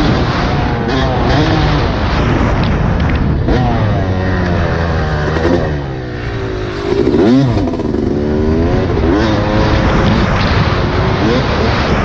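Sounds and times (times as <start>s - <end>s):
dirt bike engine revving: 0.0s - 2.6s, 3.3s - 12.0s.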